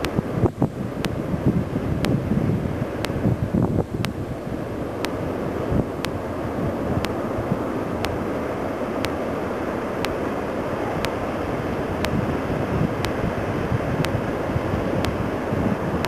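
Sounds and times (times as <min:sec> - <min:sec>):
wind buffeting microphone: 0:00.0 - 0:08.9, 0:10.5 - 0:16.0
heavy ocean surf: 0:00.0 - 0:16.0.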